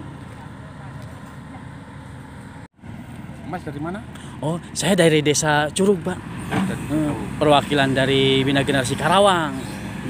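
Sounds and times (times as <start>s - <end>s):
excavator diesel engine rumble: 0.0s - 10.0s.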